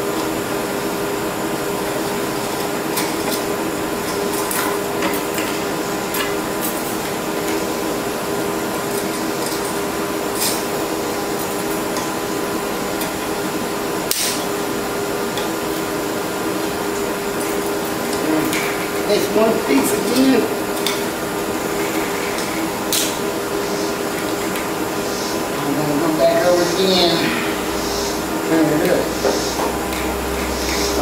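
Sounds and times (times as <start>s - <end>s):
propane torch hissing: 0.2s - 31.0s.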